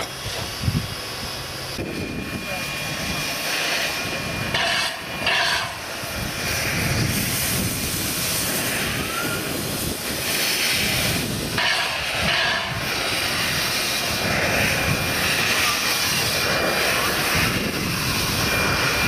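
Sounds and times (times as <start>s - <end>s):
steam locomotive hissing steam: 0.0s - 19.0s.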